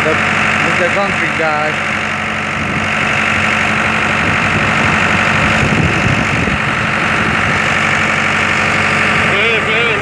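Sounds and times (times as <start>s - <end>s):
concrete pump engine humming: 0.0s - 10.0s.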